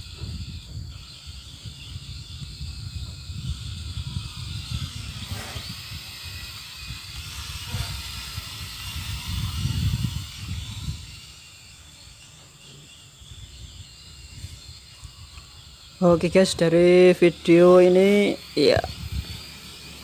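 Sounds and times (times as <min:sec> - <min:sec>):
wind buffeting microphone: 0:00.0 - 0:12.4, 0:13.1 - 0:20.0
quadcopter motors whining: 0:00.0 - 0:20.0.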